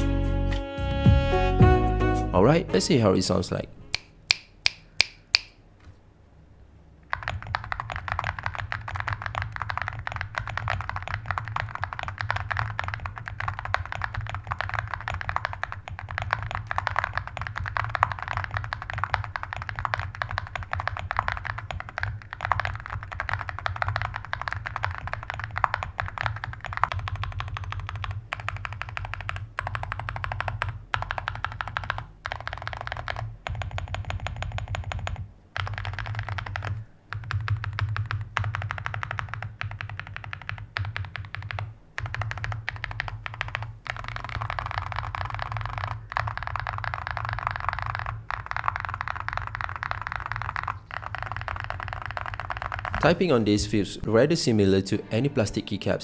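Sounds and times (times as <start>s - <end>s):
mechanical keyboard typing: 7.1s - 53.2s.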